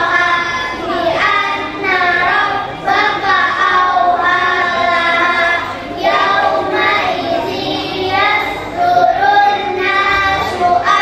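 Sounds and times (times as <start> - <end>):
children singing in unison: 0.0 - 11.0.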